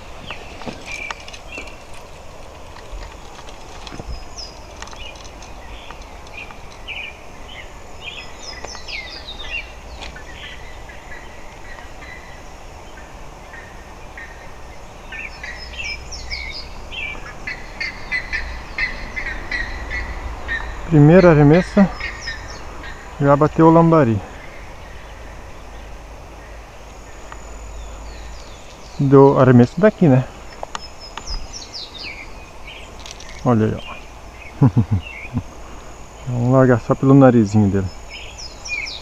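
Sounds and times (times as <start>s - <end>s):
wild birds chirping: 0.0s - 39.0s.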